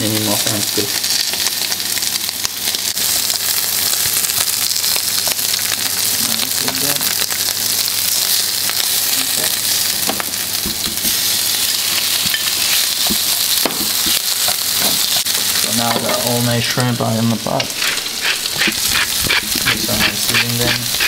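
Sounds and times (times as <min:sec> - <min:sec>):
shrimp sizzling in oil: 0:00.0 - 0:21.0.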